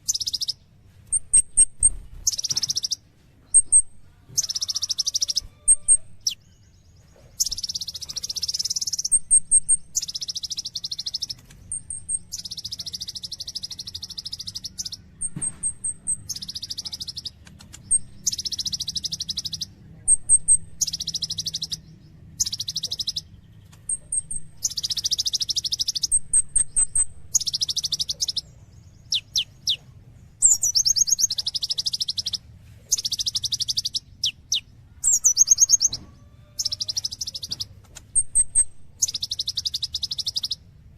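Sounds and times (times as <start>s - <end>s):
high ticking bird notes: 0.0s - 6.5s, 7.4s - 29.8s, 30.4s - 36.0s, 36.6s - 40.9s
faint low hum: 0.0s - 40.9s
sunbird singing trills: 0.0s - 40.9s.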